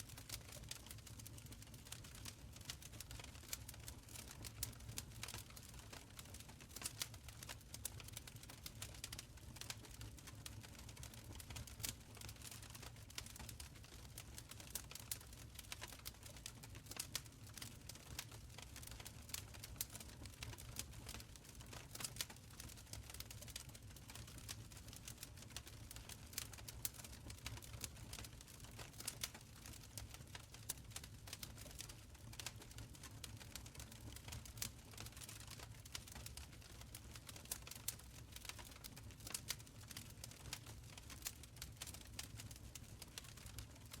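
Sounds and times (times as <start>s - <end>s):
fire crackling and popping: 0.1s - 44.0s.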